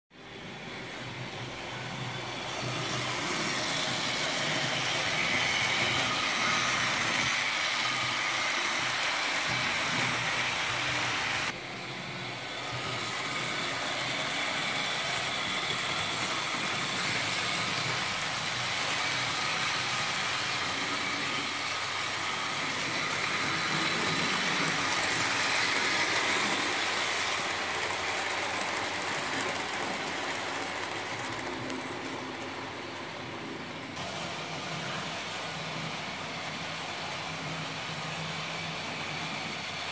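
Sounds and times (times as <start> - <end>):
model train motor whirring: 0.4 - 33.1.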